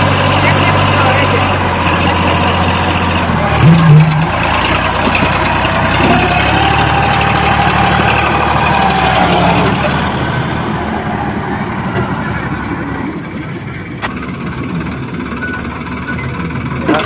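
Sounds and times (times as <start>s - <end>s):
diesel engine at low revs: 0.0s - 17.0s.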